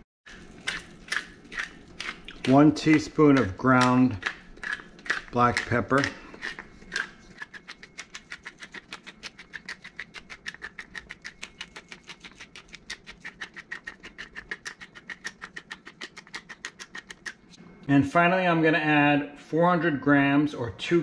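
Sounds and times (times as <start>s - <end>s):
pepper mill grinding: 0.3s - 17.5s.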